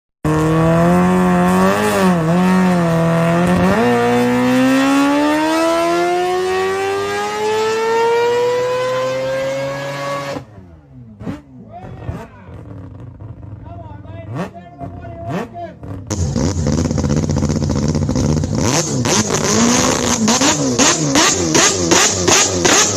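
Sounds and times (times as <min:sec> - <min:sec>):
car engine revving: 0:00.2 - 0:22.9.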